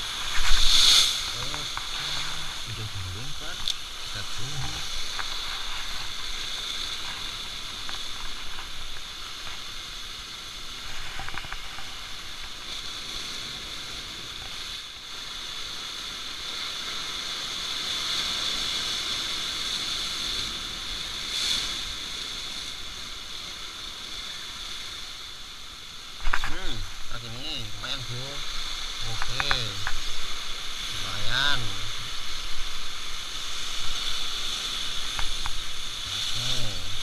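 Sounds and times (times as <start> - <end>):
surf breaking over rocks: 0.0 - 37.0.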